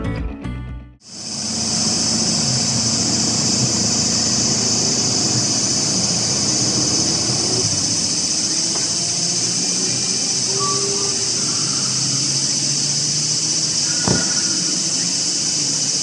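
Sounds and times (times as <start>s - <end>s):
high-pitched hiss or buzz: 1.1s - 16.0s.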